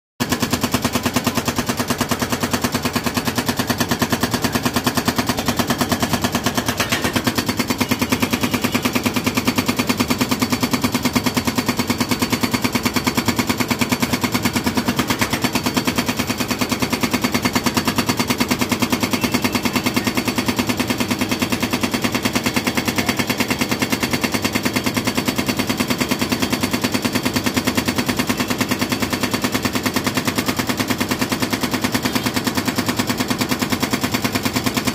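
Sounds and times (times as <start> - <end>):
hydraulic breaker pounding concrete: 0.2 - 34.9.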